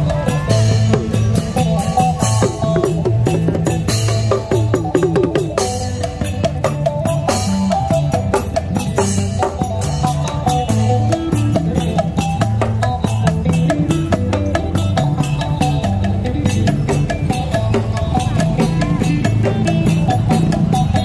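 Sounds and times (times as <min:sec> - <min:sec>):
drum kit steady beat: 0:00.0 - 0:21.0
electric bass line: 0:00.0 - 0:21.0
lute picking a melody: 0:00.0 - 0:21.0.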